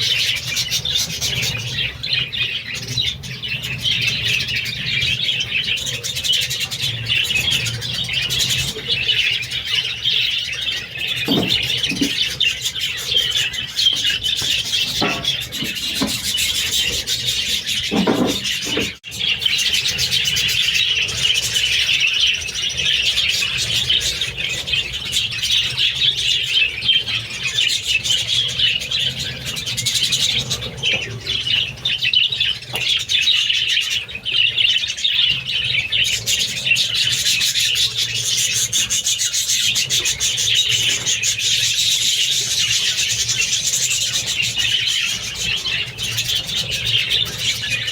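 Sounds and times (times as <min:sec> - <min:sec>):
budgerigars chirping: 0:00.0 - 0:47.9.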